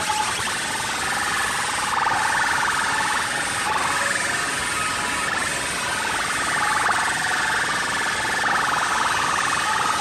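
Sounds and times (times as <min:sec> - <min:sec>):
loud harsh sound system buzz: 0:00.0 - 0:10.0.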